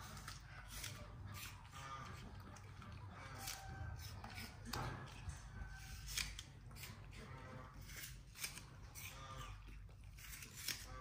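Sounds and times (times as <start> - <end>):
monkey crunching apple: 0.0 - 11.0.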